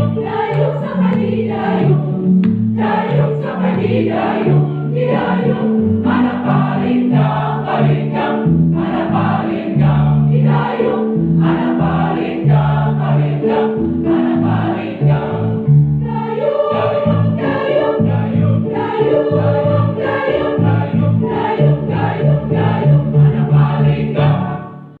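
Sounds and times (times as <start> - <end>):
choir singing in harmony: 0.0 - 25.0.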